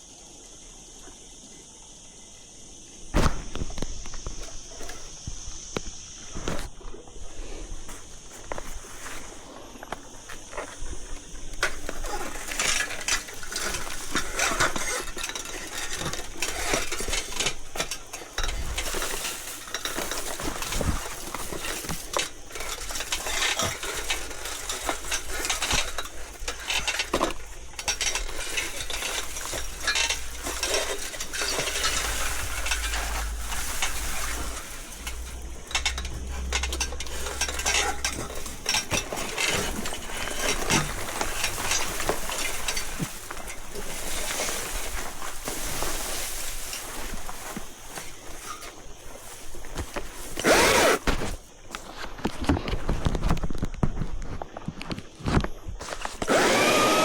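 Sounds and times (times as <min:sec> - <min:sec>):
branches crackling and snapping: 0:08.3 - 0:57.0.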